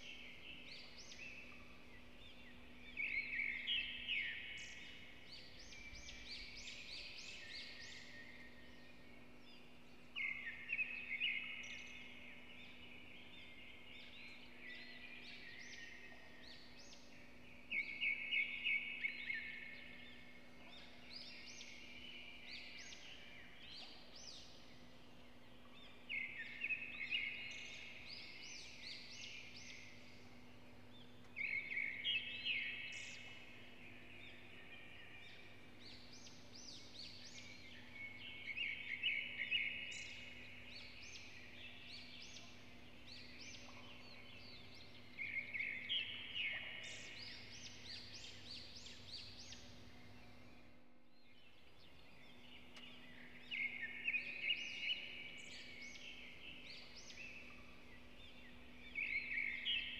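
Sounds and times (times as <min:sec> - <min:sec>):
bird singing: 0:00.0 - 0:59.9
steady low hum: 0:00.0 - 0:59.9.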